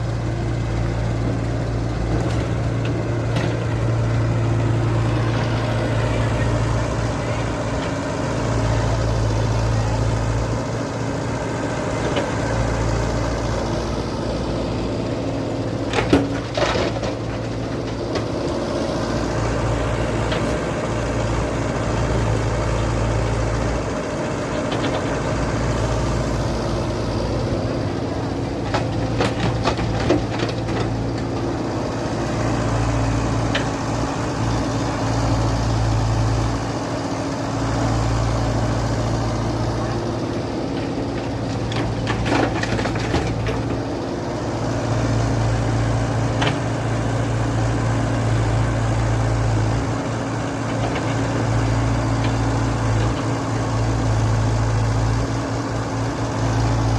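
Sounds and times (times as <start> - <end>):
model truck engines droning: 0.0 - 56.9.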